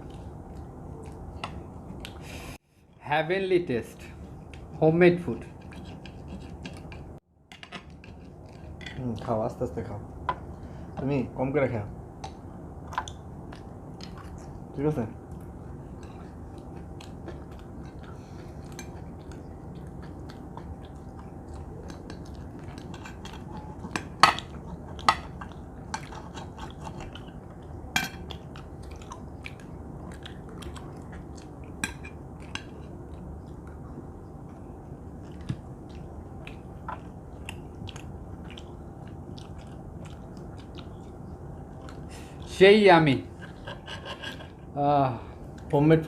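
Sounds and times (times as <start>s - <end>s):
people chewing: 0.0s - 2.6s, 4.1s - 9.4s, 12.2s - 42.6s, 43.2s - 45.8s
low background noise: 0.0s - 46.0s.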